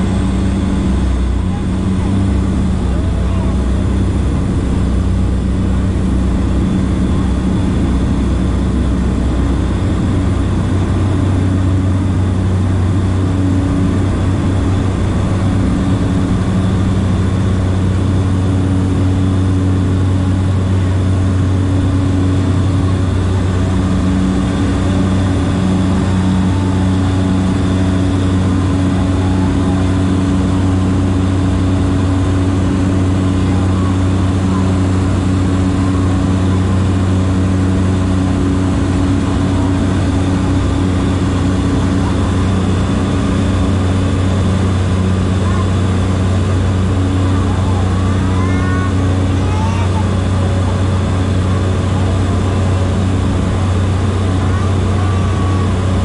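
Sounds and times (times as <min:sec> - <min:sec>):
turboprop engine drone in cabin: 0:00.0 - 0:56.0.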